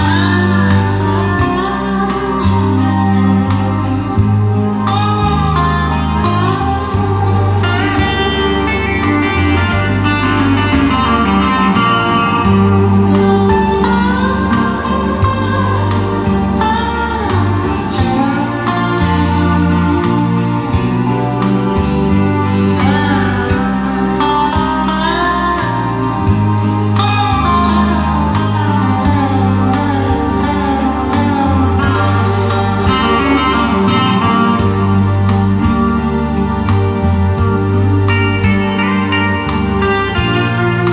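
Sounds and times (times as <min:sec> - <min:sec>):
guitar music over loudspeakers: 0:00.0 - 0:40.9.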